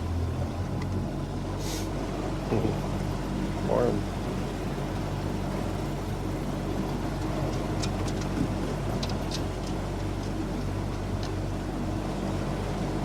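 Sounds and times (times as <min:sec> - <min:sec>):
boat motor running: 0:00.0 - 0:13.0
wind: 0:00.0 - 0:13.0.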